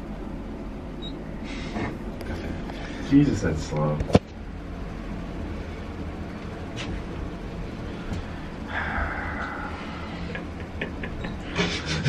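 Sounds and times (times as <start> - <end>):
elevator rumble and hum: 0.0 - 12.0.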